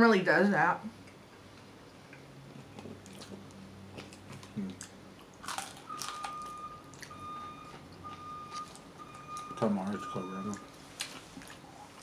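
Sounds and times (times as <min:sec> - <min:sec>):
person chewing and crunching: 0:02.1 - 0:12.0.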